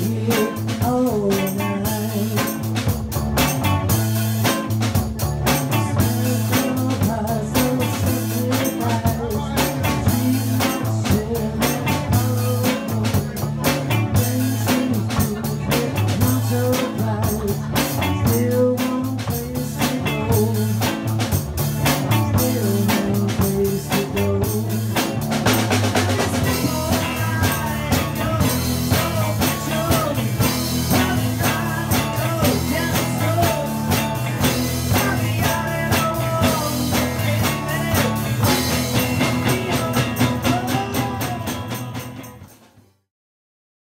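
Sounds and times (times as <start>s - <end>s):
person singing: 0.0s - 42.2s
bass line: 0.0s - 42.5s
organ-style keyboard: 0.0s - 42.5s
electric guitar: 0.0s - 42.8s
drum kit: 0.0s - 43.0s.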